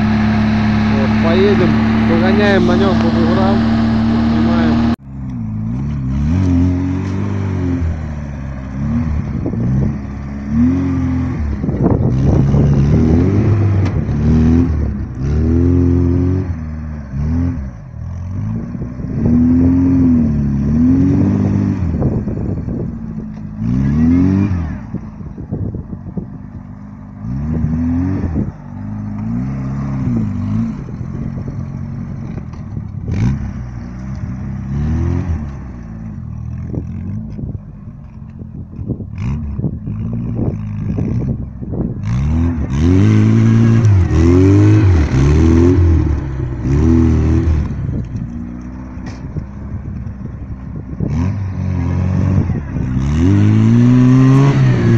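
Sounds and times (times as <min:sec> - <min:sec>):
vehicle engine revving: 0:00.0 - 0:54.9.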